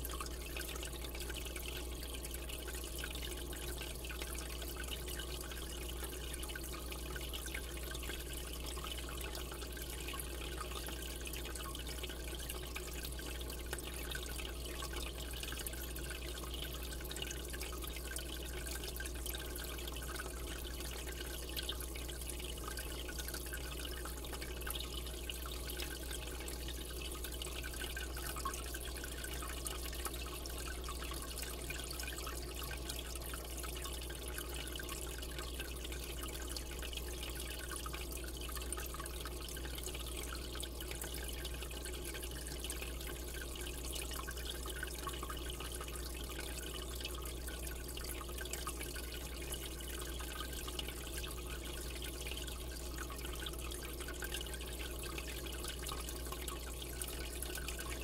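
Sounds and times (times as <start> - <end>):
low steady hum: 0.0 - 58.0
water trickling and bubbling: 0.0 - 58.0.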